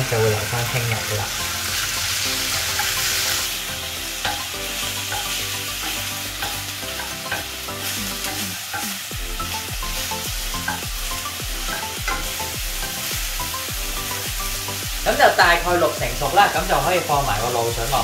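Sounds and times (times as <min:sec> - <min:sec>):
beef sizzling in a frying pan: 0:00.0 - 0:18.0.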